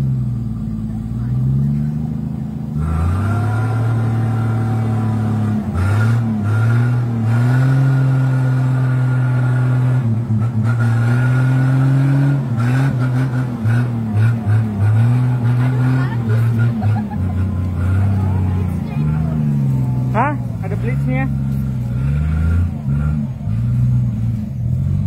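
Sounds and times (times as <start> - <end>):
vehicle engine working hard in mud: 0.0 - 25.0.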